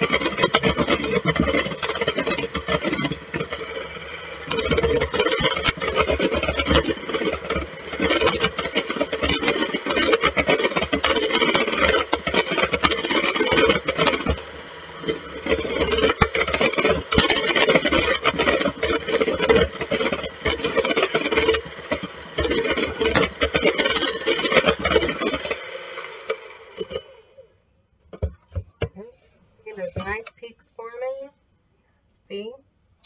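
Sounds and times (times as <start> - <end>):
beaters clicking against metal bowl: 0.0 - 27.3
electric hand mixer running: 0.0 - 27.4.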